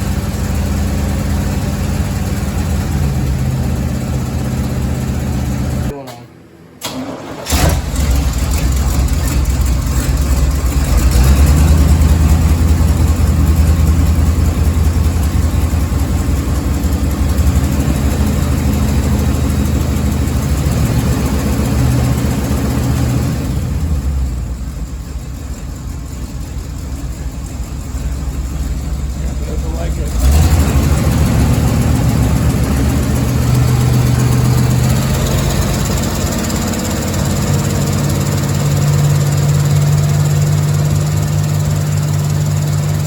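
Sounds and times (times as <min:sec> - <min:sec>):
engine running rough with misfire: 0:00.0 - 0:06.0, 0:06.8 - 0:43.0.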